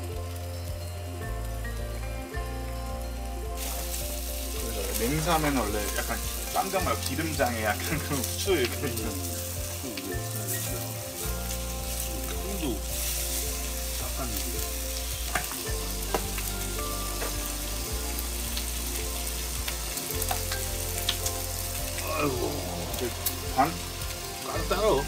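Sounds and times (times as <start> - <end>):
pork sizzling in a pan: 0.0 - 25.0.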